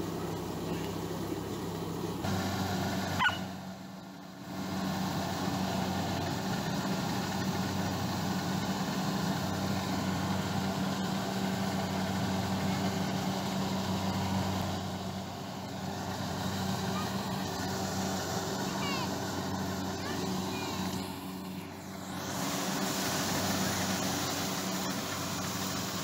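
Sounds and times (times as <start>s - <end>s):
combine harvester humming: 0.0s - 26.0s.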